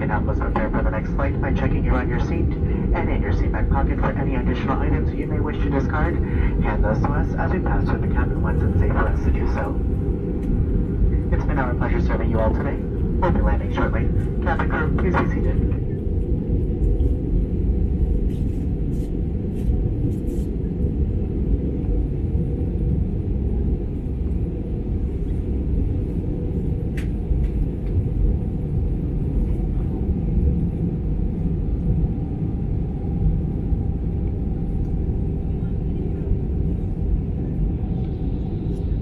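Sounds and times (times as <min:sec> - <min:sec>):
airplane cabin rumble: 0:00.0 - 0:39.0.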